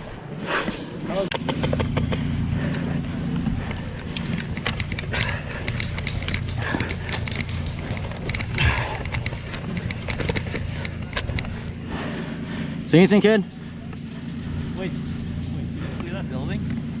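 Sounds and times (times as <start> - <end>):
low rumble of movement: 0.0 - 17.0.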